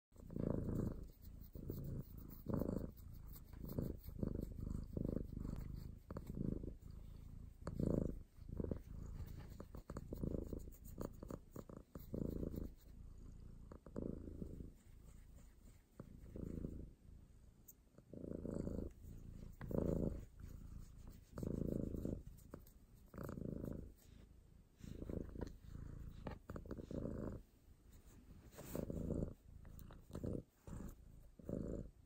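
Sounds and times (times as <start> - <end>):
cat purring: 0.1 - 32.0.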